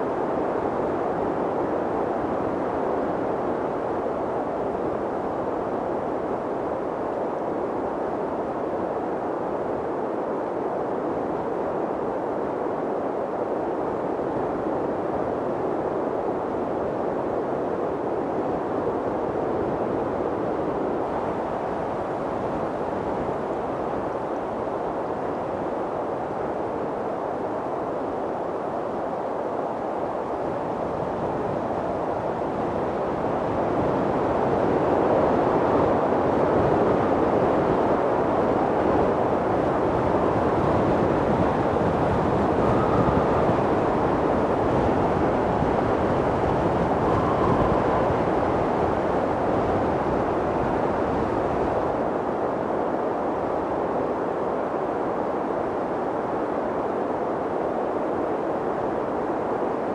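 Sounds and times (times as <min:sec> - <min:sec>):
strong wind blowing: 0:00.0 - 0:59.9.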